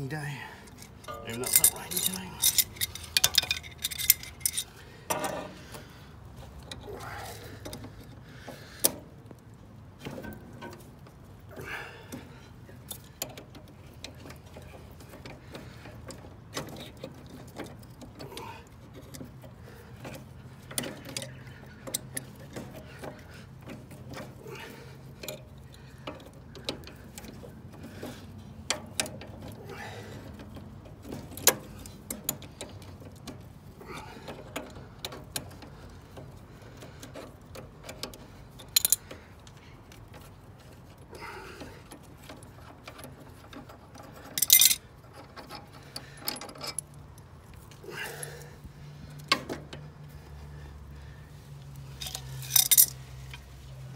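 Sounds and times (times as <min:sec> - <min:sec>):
hand tools clanking on metal: 0:00.5 - 0:05.9, 0:10.0 - 0:51.2, 0:51.9 - 0:53.5.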